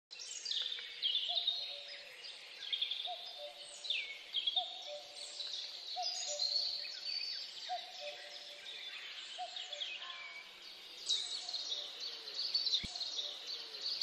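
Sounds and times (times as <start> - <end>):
birds chirping: 0.1 - 14.0.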